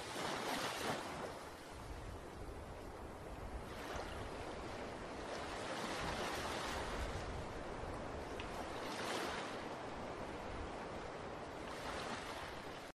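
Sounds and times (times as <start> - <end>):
ocean waves washing onto beach: 0.0 - 12.9.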